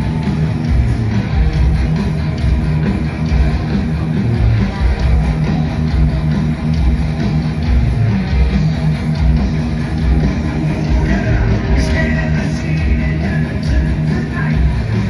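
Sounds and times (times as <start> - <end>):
heavy metal band playing live: 0.0 - 15.0.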